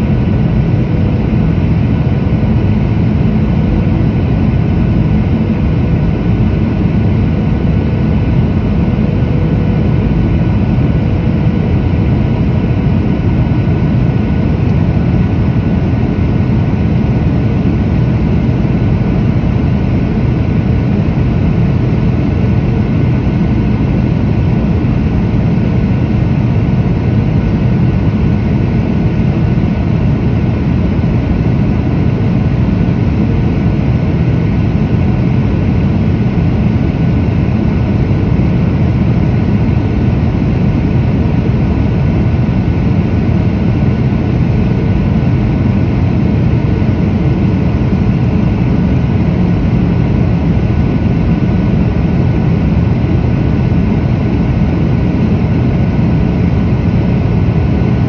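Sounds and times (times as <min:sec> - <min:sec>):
jet engine and airflow rumble: 0:00.0 - 0:58.0.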